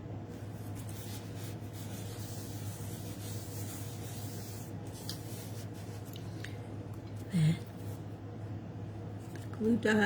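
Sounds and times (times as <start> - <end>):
room noise hum and hiss: 0.0 - 10.0.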